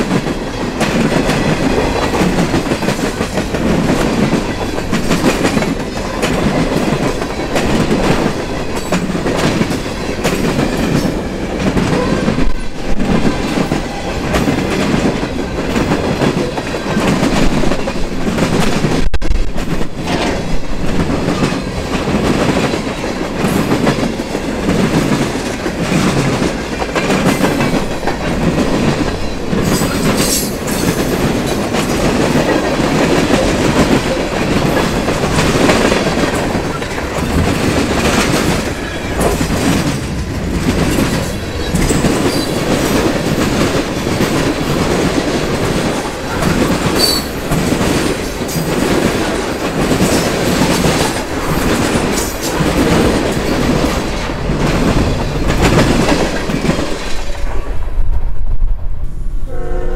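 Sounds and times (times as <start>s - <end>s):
steel wheels knocking on rails: 0.0s - 57.3s
freight train cars rolling past: 0.0s - 59.9s.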